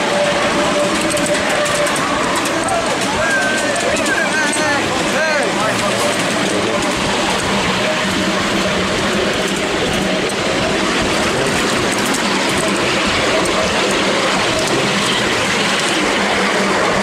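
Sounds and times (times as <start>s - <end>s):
wheels rumbling on rails: 0.0s - 17.0s.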